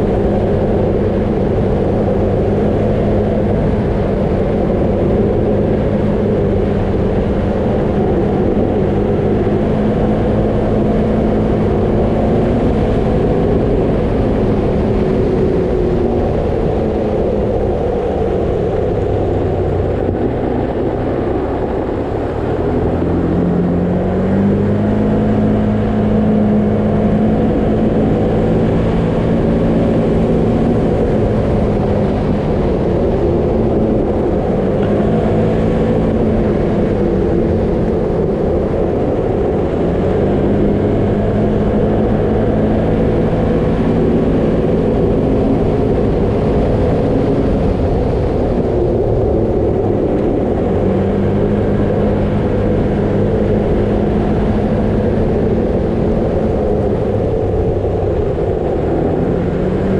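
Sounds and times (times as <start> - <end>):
vehicle engine: 0.0 - 59.9.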